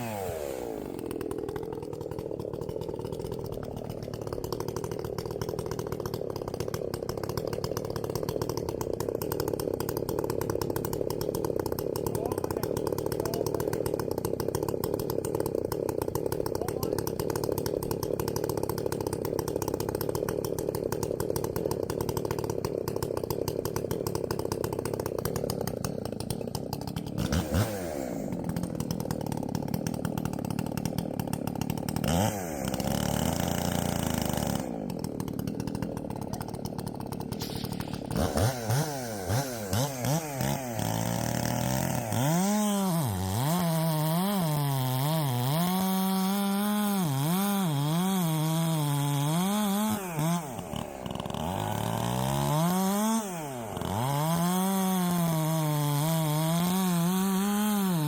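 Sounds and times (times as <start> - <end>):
small gasoline engine revving: 0.0 - 58.0.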